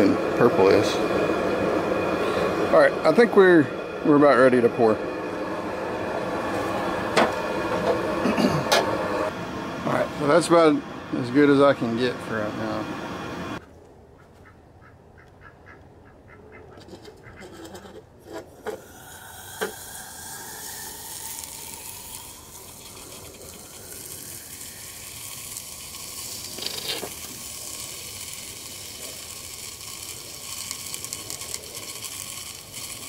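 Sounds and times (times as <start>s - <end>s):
molten lead hissing on metal: 0.0s - 13.6s, 18.6s - 33.0s.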